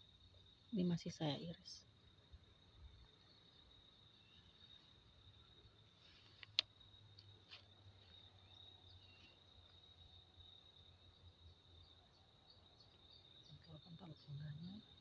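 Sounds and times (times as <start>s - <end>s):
faint insect trill: 0.0s - 15.0s.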